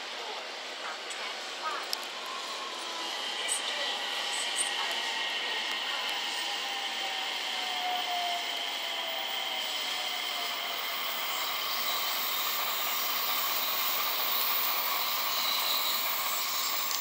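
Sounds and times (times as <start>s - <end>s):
faint higher train whines: 0.0s - 17.0s
train motor whine: 0.0s - 17.0s
train rushing hiss: 0.0s - 17.0s.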